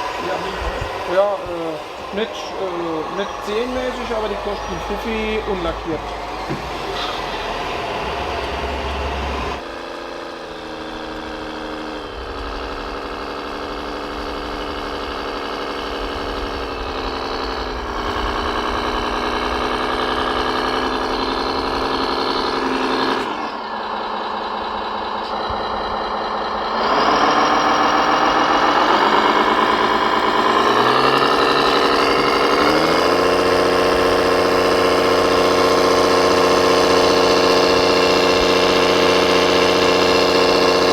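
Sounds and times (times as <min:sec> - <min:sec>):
model truck motor humming: 0:00.0 - 0:40.9.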